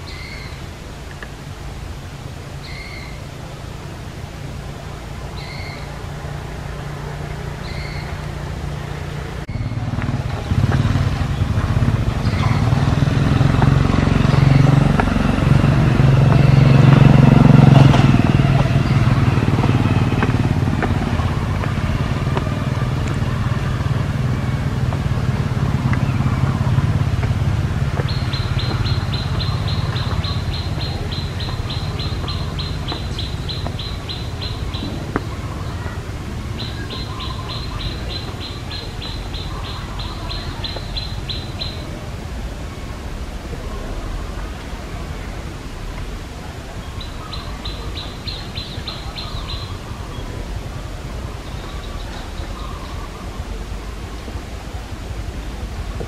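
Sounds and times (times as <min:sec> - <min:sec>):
vehicle engine running: 0:03.5 - 0:56.0.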